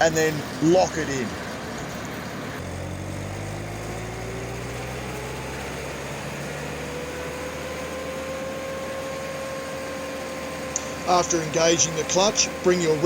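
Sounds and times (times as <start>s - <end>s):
chipper engine running: 0.0s - 13.0s
rising whine of spinning drum: 2.0s - 13.0s.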